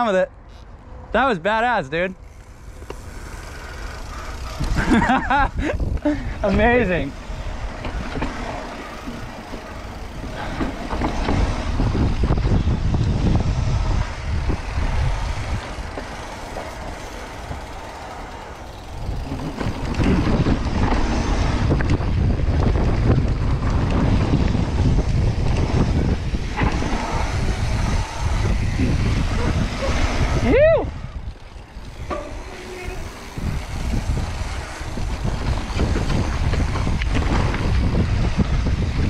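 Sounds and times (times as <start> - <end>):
bike rattling: 0.0 - 39.0
bike tyres rolling on dirt: 0.0 - 39.0
wind buffeting microphone: 2.2 - 39.0.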